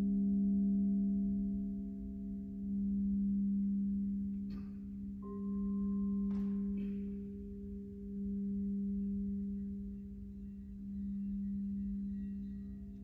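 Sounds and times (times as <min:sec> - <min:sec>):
singing bowl low tone: 0:00.0 - 0:13.0.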